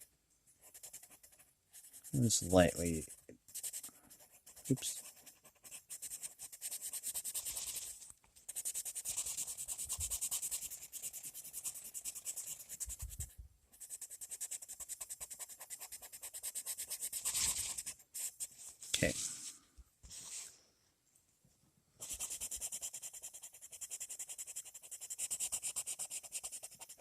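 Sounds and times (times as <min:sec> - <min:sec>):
pencil scratching on paper: 0:00.0 - 0:19.2, 0:22.0 - 0:27.0.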